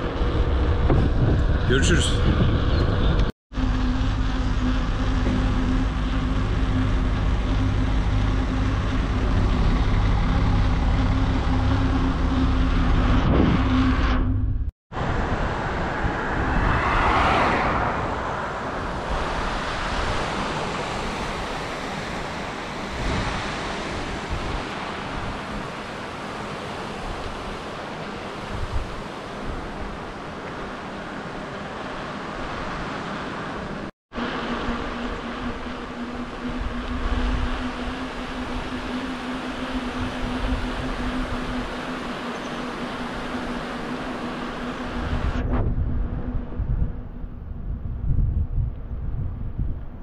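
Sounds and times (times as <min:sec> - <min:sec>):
low hum: 0:00.0 - 0:32.8, 0:33.4 - 0:50.0
road noise: 0:00.0 - 0:49.7
rushing wind: 0:00.0 - 0:50.0.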